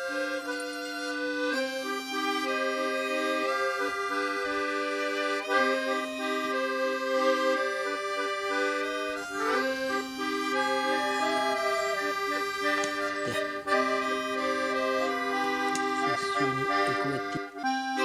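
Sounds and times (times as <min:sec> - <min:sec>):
background music with held chords: 0:00.0 - 0:18.0.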